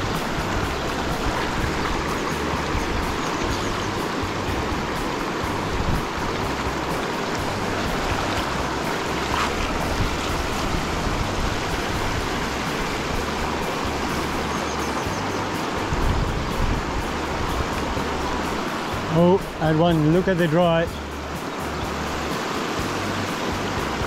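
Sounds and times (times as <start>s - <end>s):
low uneven rumble: 0.0s - 24.0s
river water rushing over stones: 0.0s - 24.0s.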